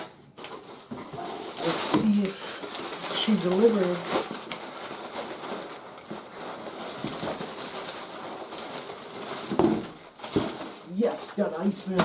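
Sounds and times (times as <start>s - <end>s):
package rustling and crinkling: 0.0s - 12.0s.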